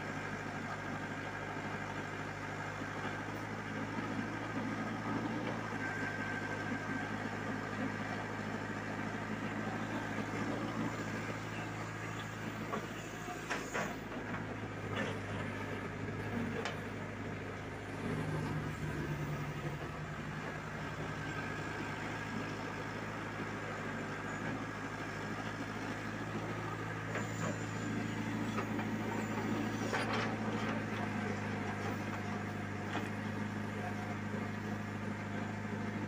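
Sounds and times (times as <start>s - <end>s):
backhoe diesel engine running: 0.0s - 36.0s.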